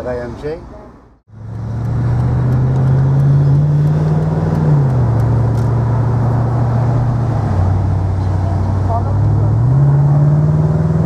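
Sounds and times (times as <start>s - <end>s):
tyre and road noise: 0.0s - 11.0s
car engine accelerating: 1.3s - 11.0s.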